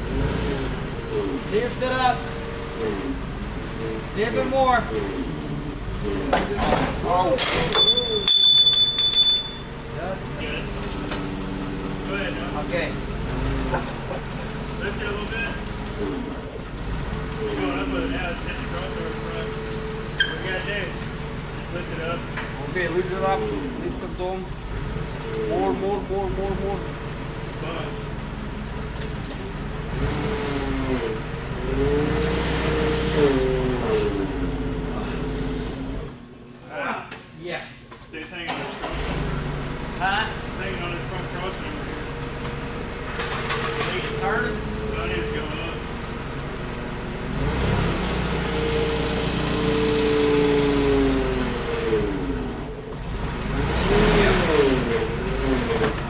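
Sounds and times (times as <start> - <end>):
forklift engine revving: 0.0 - 36.5, 38.4 - 56.0
hydraulic lift whining: 0.0 - 37.4, 40.6 - 56.0.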